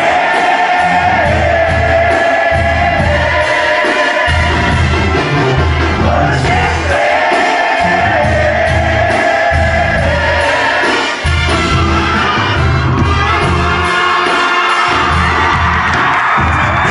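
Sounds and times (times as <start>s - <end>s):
drums: 0.0s - 16.9s
trumpets and trombones melody: 0.0s - 16.9s.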